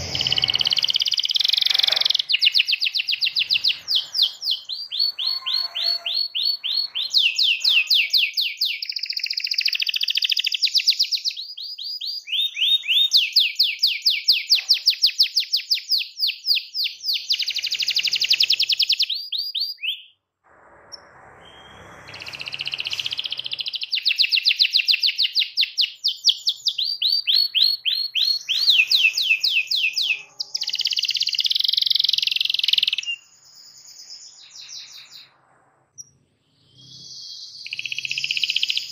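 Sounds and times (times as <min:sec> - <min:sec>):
canary singing rapid trills: 0:00.0 - 0:20.2, 0:21.6 - 0:35.4, 0:36.0 - 0:38.9.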